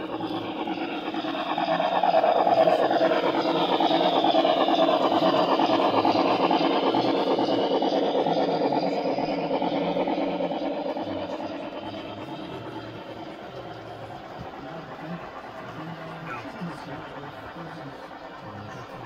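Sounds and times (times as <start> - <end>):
model train rumbling on track: 0.0 - 19.0.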